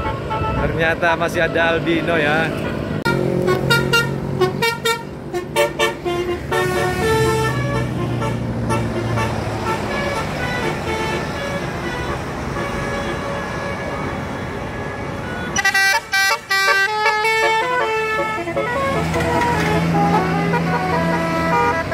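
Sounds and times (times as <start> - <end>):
bus horn playing a melody: 0.0 - 0.8, 2.5 - 21.9.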